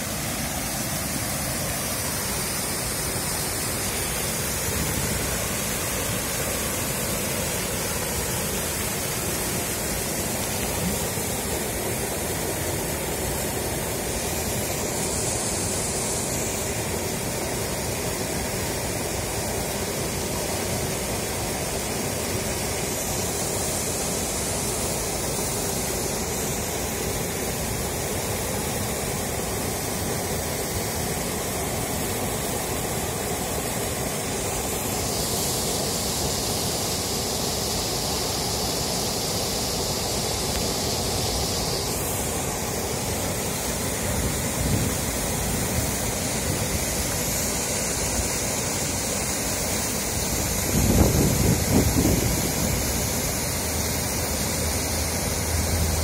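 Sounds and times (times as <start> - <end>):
water rushing over rock ledge: 0.0 - 56.0.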